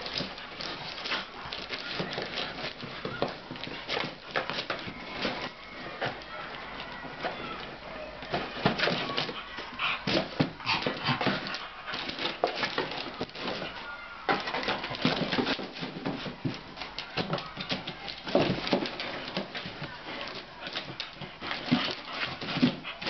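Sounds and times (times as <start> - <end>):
dog rummaging in cardboard box: 0.0 - 23.0.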